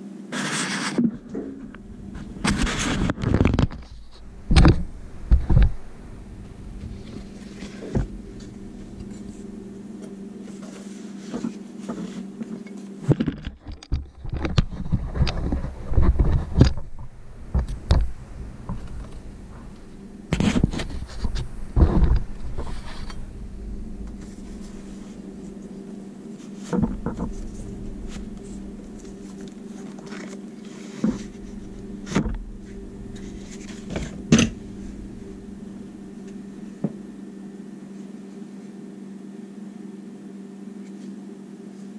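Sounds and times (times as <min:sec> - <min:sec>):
low electrical hum: 0:00.0 - 0:41.9.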